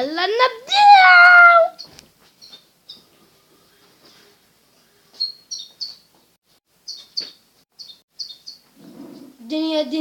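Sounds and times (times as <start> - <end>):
small birds chirping: 1.0 - 9.5.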